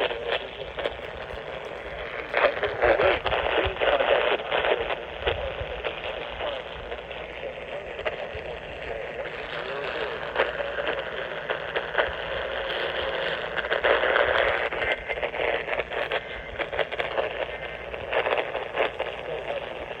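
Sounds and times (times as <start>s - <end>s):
muffled radio static hiss: 0.0s - 20.0s
static crackles and clicks: 0.0s - 20.0s.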